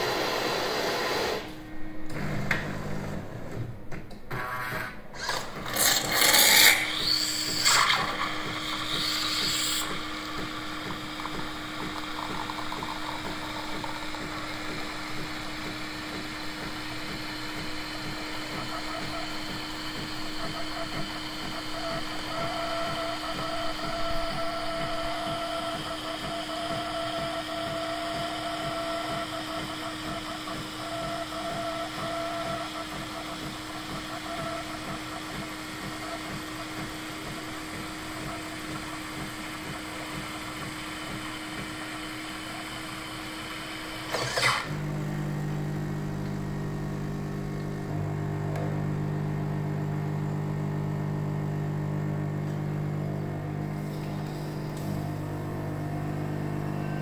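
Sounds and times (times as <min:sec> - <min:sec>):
coffee machine frothing milk: 0:00.0 - 0:01.6, 0:04.3 - 0:57.0.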